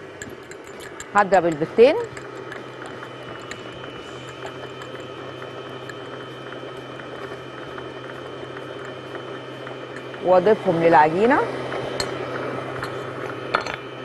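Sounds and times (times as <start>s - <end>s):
eggs beaten in a bowl: 0.0s - 14.0s
steady low hum: 0.0s - 14.0s.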